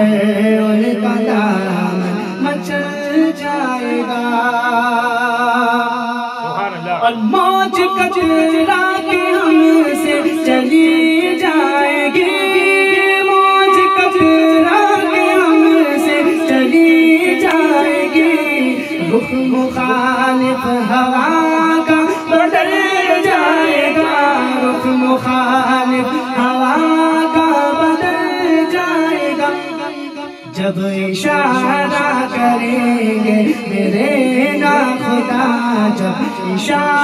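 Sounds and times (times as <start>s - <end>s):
man singing into a microphone: 0.0s - 37.0s.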